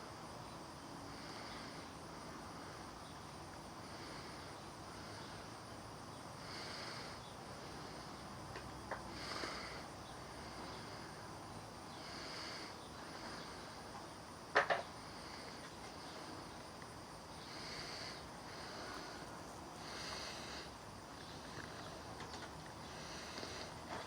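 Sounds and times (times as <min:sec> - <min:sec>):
faint insect chirring: 0:00.0 - 0:24.0.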